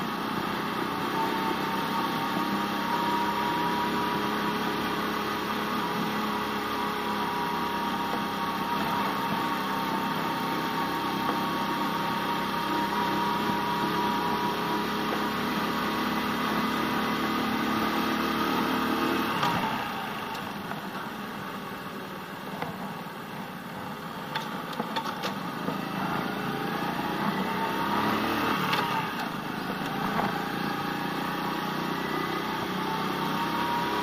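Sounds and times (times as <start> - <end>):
scooter engine running: 0.0 - 34.0
wind and road noise: 0.0 - 34.0.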